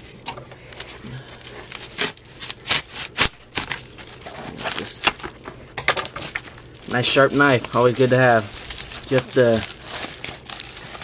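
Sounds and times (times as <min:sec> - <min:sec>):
padded envelope crinkling: 0:00.7 - 0:11.0.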